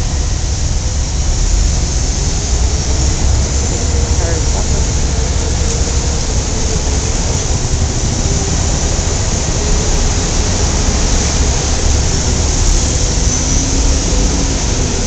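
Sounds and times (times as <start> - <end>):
city street traffic roar: 0.0 - 15.0.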